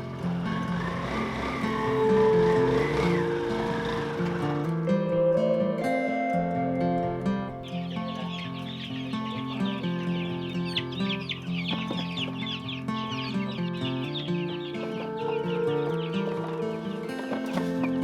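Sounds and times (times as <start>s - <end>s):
chicks peeping: 0.0s - 4.8s, 7.0s - 18.0s
background music with held notes: 0.0s - 18.0s.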